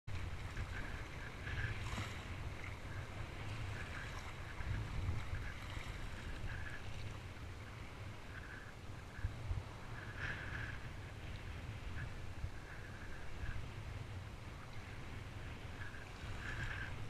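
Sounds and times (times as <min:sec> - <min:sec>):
wind rumbling on microphone: 0:00.1 - 0:17.0.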